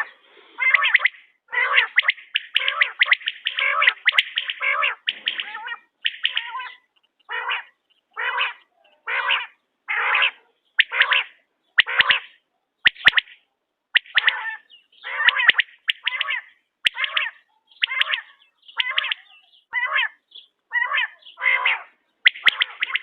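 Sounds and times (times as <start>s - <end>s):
quail calling: 0.0s - 23.0s.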